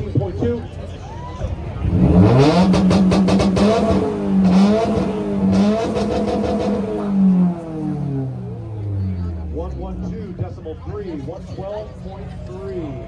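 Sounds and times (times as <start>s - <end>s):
car engine revving: 1.7s - 12.5s
exhaust crackles: 1.8s - 12.6s.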